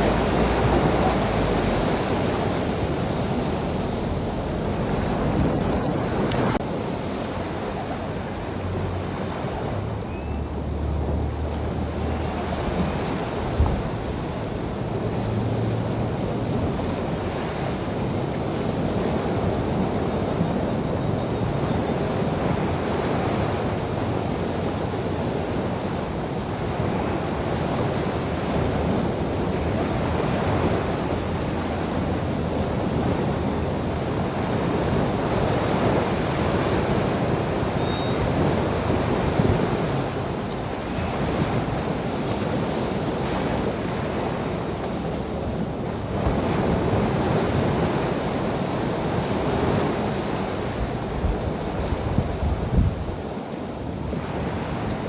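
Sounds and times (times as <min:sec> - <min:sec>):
sea waves breaking on shore: 0:00.0 - 0:55.0
wind on microphone: 0:00.0 - 0:55.0.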